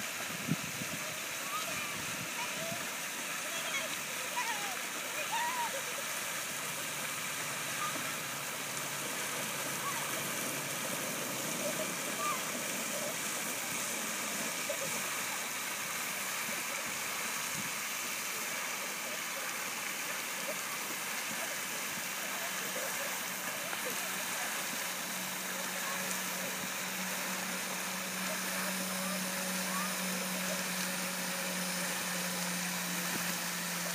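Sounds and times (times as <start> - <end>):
low steady hum: 0.0 - 33.9
steady outdoor hiss: 0.0 - 33.9.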